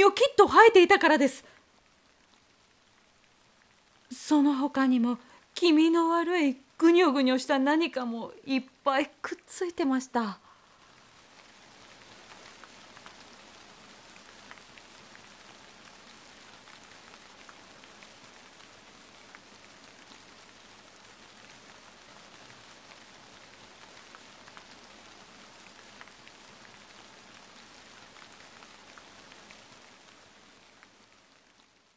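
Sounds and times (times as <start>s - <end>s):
faint rain falling: 0.0s - 31.9s.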